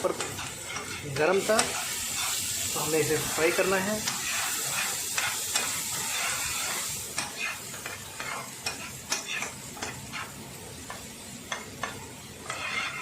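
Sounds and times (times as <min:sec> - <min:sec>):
paste sizzling in hot oil: 0:00.0 - 0:13.0
spatula scraping pan: 0:00.0 - 0:13.0.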